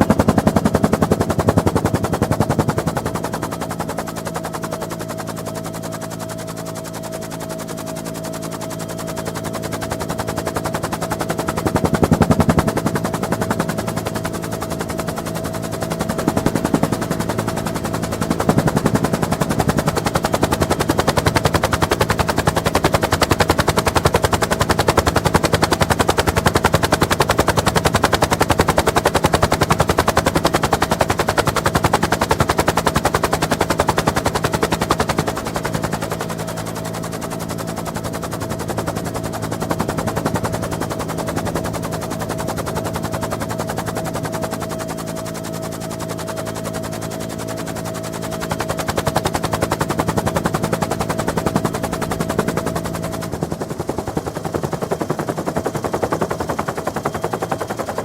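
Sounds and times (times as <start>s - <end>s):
helicopter rotor chop: 0.0s - 58.0s
turboshaft engine whine and drone: 0.0s - 58.0s.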